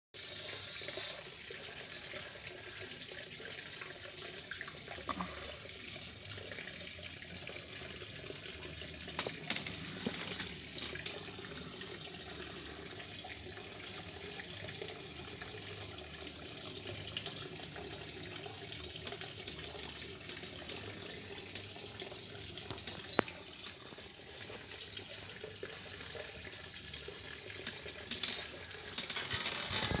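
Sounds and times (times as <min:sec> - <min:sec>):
water trickling and splashing: 0:00.2 - 0:30.0.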